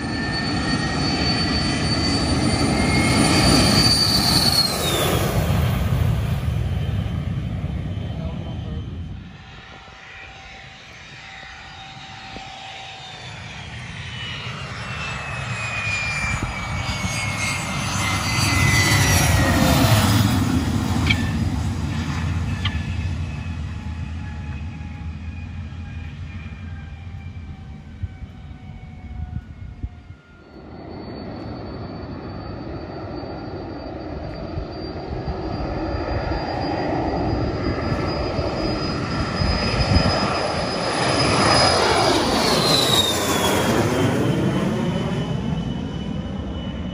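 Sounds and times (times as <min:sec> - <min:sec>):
jet engines at takeoff power: 0:00.0 - 0:46.9
jet landing whine: 0:00.0 - 0:46.9.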